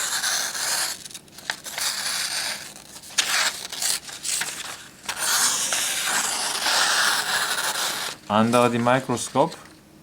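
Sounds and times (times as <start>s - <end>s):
knife slicing through paper: 0.0s - 9.0s.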